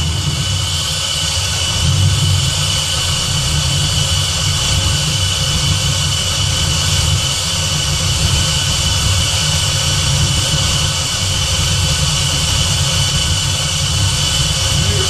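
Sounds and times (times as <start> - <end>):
engine idling rumble: 0.0 - 15.0
supercharger whine: 0.0 - 15.0.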